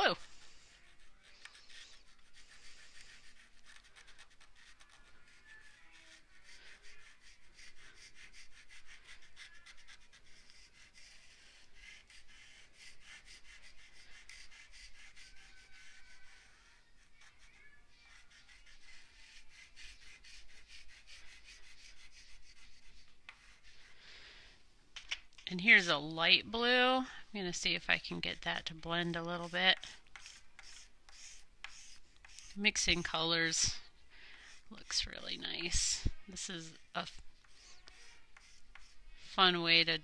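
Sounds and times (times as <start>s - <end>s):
chalk scratching on paper: 0.1s - 24.1s, 27.7s - 40.0s.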